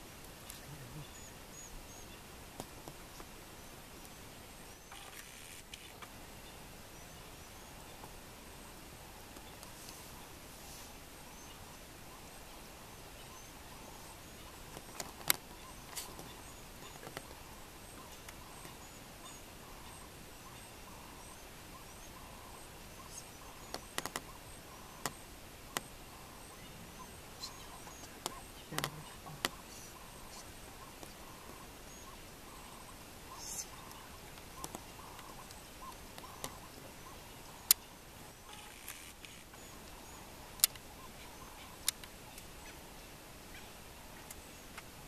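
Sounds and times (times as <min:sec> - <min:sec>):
faint hiss: 0:00.0 - 0:45.0.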